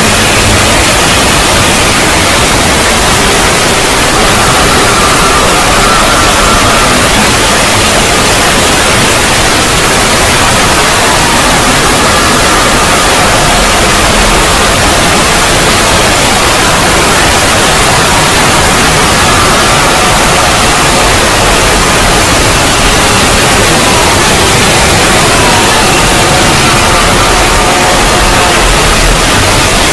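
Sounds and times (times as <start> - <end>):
faint wavering tones: 0.0 - 29.9
harsh distorted static noise: 0.0 - 29.9.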